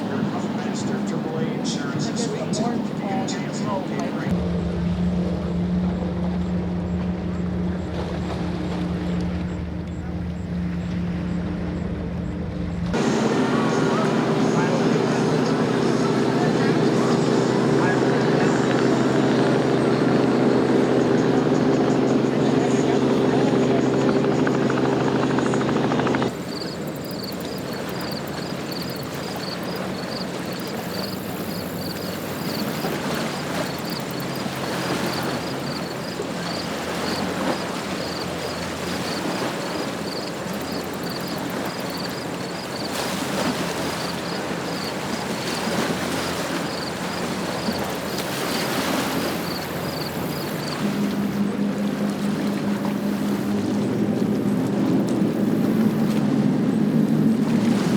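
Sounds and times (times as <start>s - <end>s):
water rushing: 0.0s - 11.8s, 12.8s - 57.9s
motorboat engine running: 0.0s - 57.9s
steady low hum: 0.0s - 57.9s.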